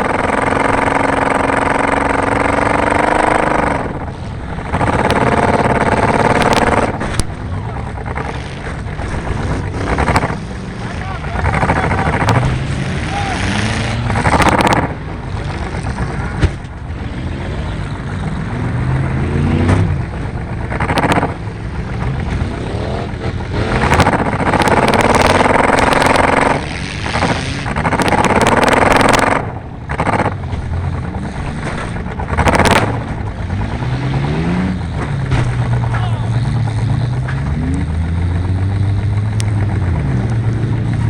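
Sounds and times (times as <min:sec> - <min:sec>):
car engine revving: 0:00.0 - 0:41.0
loud rushing noise: 0:00.0 - 0:41.0.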